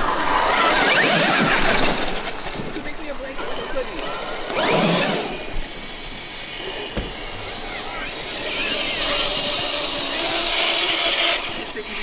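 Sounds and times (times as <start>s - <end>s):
electric toy truck motor whine: 0.0s - 2.5s, 3.3s - 12.0s.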